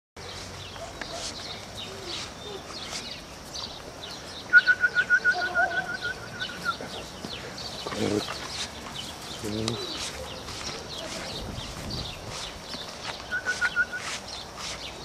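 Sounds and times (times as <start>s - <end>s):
birds chirping: 0.2s - 15.0s.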